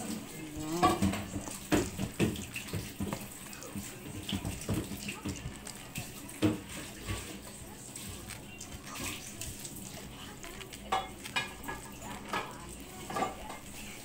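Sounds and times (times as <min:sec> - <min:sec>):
stuffing stirred in metal bowl: 0:00.0 - 0:14.0.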